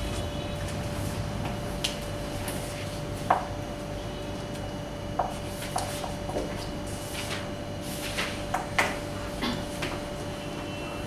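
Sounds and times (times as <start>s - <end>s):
steady room hum: 0.0s - 11.0s.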